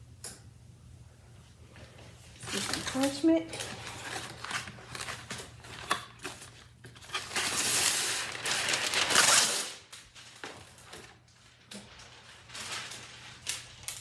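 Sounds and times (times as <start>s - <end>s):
parchment paper rustling: 1.8s - 14.0s.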